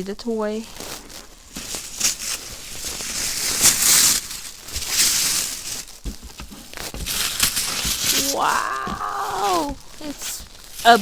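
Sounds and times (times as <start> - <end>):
packaging rustling and crinkling: 0.4 - 11.0.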